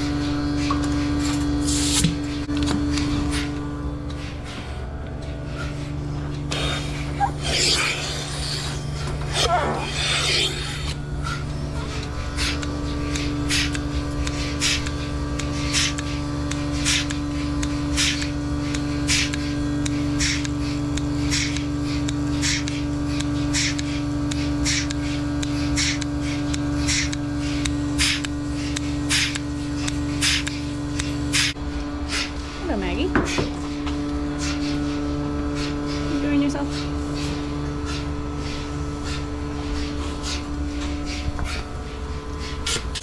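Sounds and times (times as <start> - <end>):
milking machine hum: 0.0 - 43.0
pulsators hissing rhythmically: 0.0 - 43.0.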